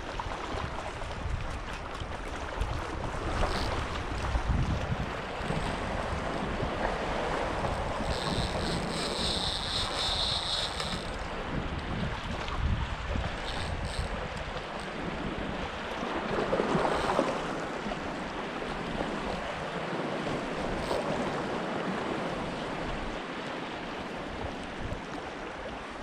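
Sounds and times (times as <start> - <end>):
wind buffeting microphone: 0.0 - 23.2
small ocean waves lapping: 0.0 - 26.0.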